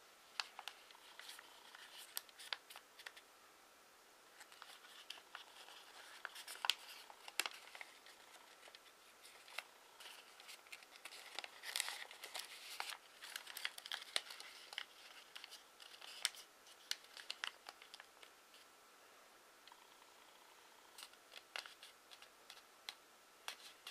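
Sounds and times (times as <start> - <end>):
paper rustling and crinkling: 0.3 - 3.2, 4.3 - 18.6, 21.0 - 22.6, 23.4 - 23.9.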